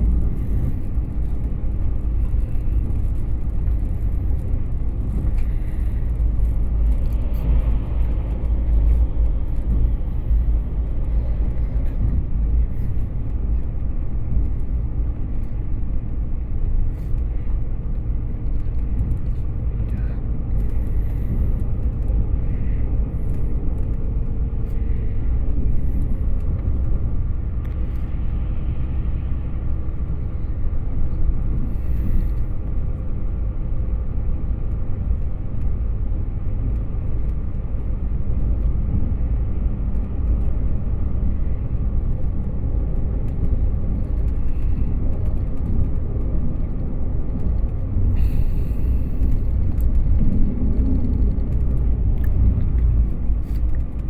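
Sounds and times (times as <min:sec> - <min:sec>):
faint clicks and rattles: 0:00.0 - 0:28.4, 0:30.0 - 0:54.0
train rumbling inside carriage: 0:00.0 - 0:54.0.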